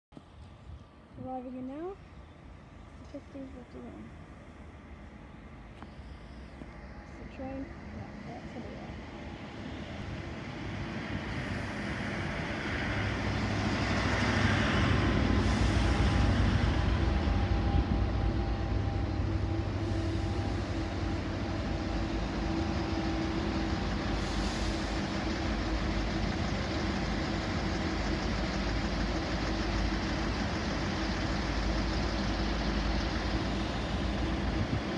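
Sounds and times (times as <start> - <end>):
passenger train rumbling: 0.2 - 34.9.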